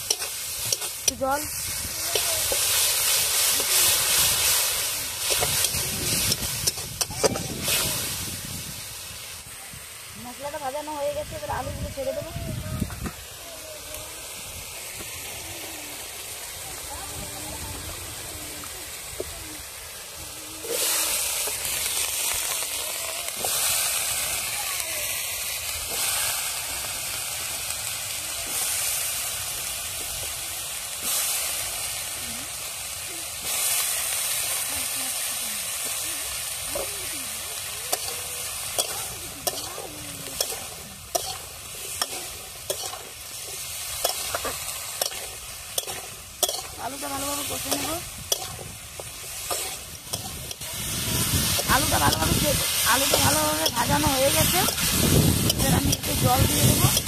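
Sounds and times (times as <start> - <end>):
loud hiss of frying potatoes: 0.0 - 57.0
spice paste sizzling in oil: 0.0 - 57.0.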